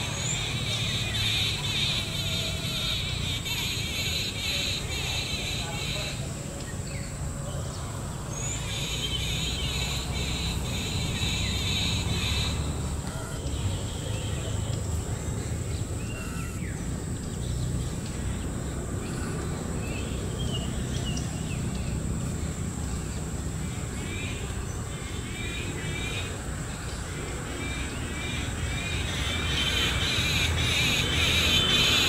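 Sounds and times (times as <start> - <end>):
birds chattering and chirping: 0.0 - 32.0.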